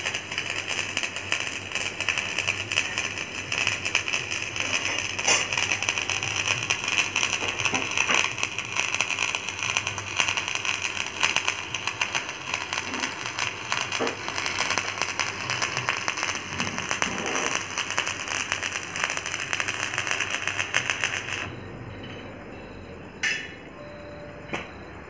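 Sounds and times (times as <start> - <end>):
welding arc crackling: 0.0 - 21.5.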